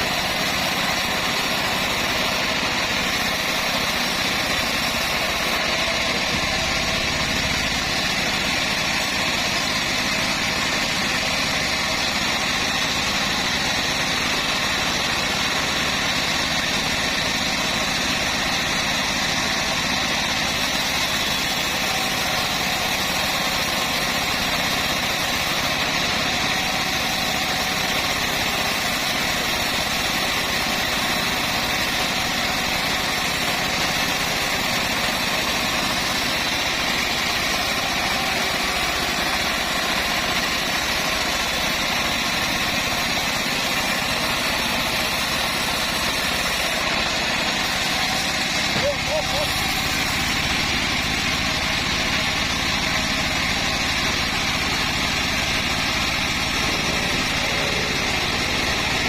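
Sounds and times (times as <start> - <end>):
sawmill engine droning: 0.0 - 59.0.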